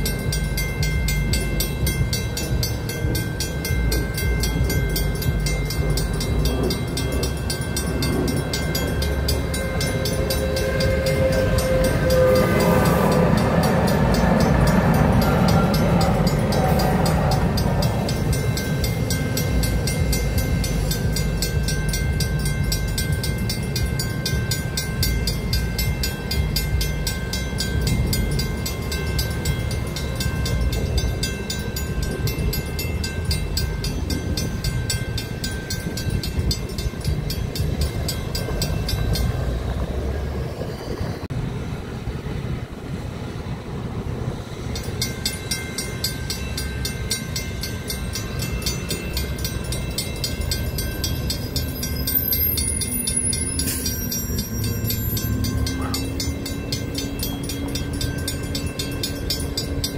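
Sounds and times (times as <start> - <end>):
light rail train rumbling past: 0.0 - 59.9
railroad crossing bells clanging: 0.0 - 59.9.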